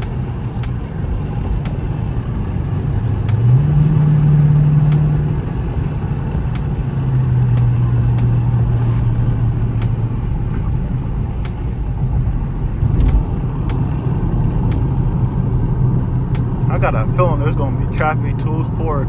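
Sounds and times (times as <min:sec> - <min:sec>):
car engine exhaust drone: 0:00.0 - 0:19.0.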